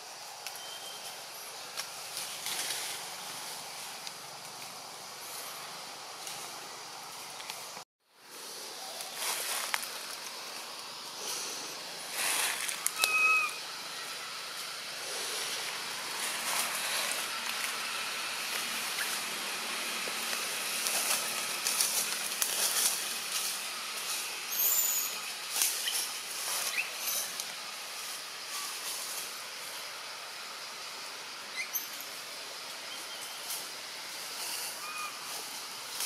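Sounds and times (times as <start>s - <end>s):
leaves and branches rustling: 0.0s - 36.0s.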